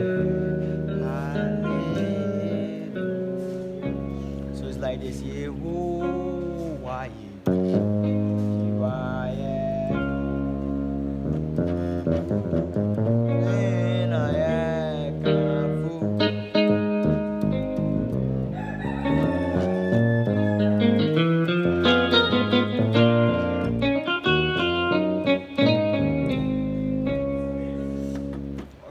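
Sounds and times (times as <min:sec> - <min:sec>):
instrumental praise music: 0:00.0 - 0:28.9
walking bassline: 0:00.0 - 0:28.9.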